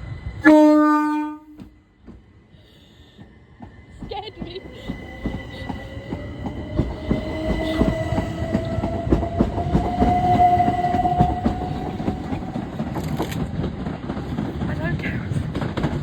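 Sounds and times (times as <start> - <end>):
rising train whine: 0.0 - 16.0
wheels clicking over rail joints: 3.2 - 16.0.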